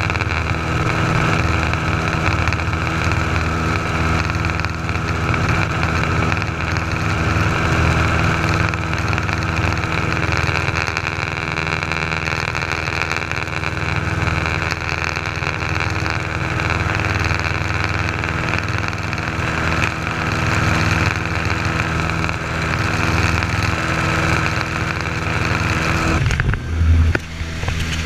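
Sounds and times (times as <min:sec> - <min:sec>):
light aircraft engine in flight: 0:00.0 - 0:28.0.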